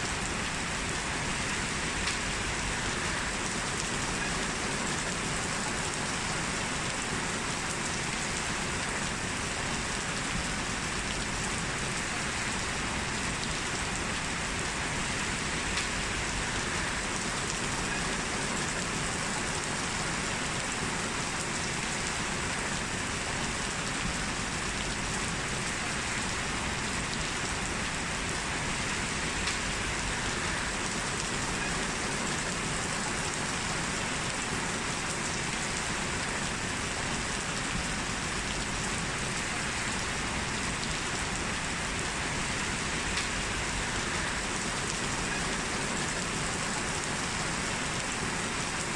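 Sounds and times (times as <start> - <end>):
heavy rain on hard surfaces: 0.0 - 48.9.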